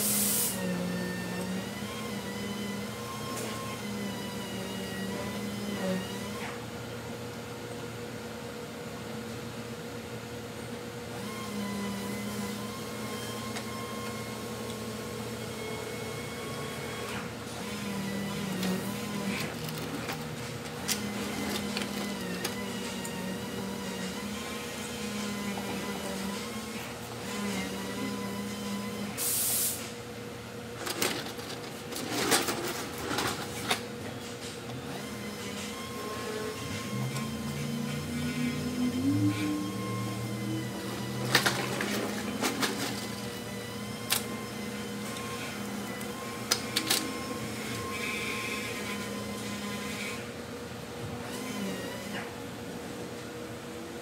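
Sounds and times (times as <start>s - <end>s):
steady whirring hum: 0.0s - 54.0s.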